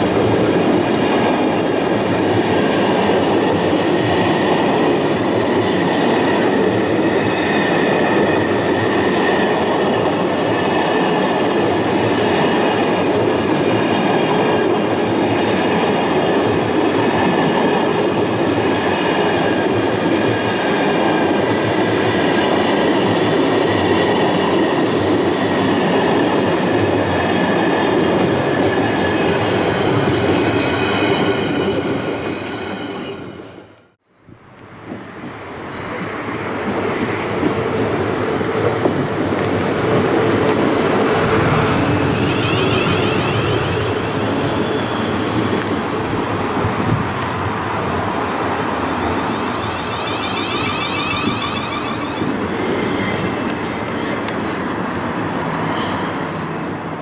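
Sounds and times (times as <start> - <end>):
train rumbling past: 0.0 - 33.8, 34.6 - 57.0.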